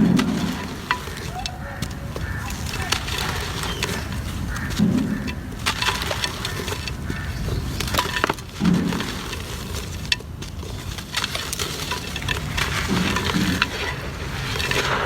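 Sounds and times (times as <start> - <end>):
cement crumbling and crunching: 0.0 - 15.0.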